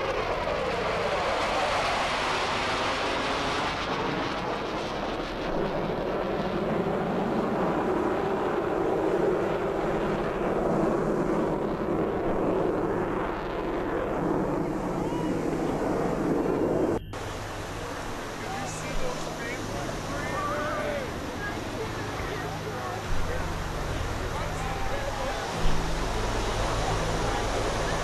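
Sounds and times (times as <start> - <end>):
jet flying overhead: 0.0 - 28.0.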